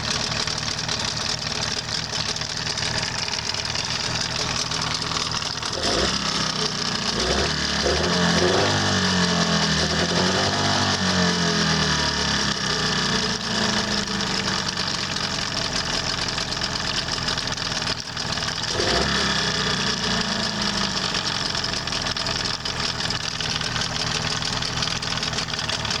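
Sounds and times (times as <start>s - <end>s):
outboard motor knocking: 0.0s - 10.2s, 13.3s - 26.0s.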